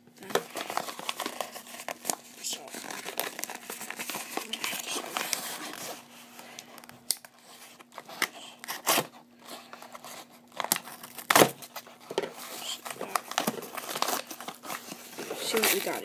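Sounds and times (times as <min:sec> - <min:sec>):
packaging crinkling and tearing: 0:00.2 - 0:16.0.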